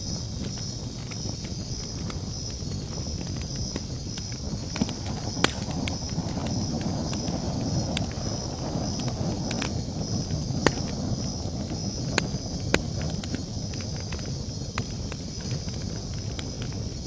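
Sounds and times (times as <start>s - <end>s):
campfire crackling: 0.0s - 17.0s
low rumble of burning wood: 0.0s - 17.0s
night insects chirping: 0.0s - 17.0s.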